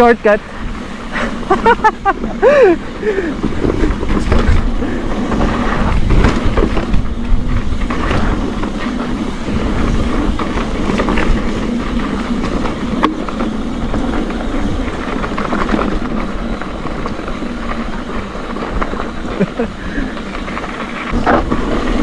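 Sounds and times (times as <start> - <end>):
bike rattling over bumps: 0.0 - 22.0
bike tyre rumble: 0.0 - 22.0
wind buffeting microphone: 0.0 - 22.0.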